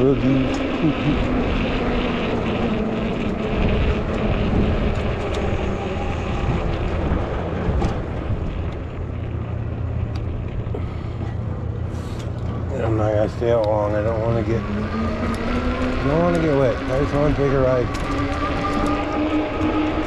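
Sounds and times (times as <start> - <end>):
electric bike motor and tyres humming: 0.0 - 20.0
wind rushing over microphone: 0.0 - 20.0.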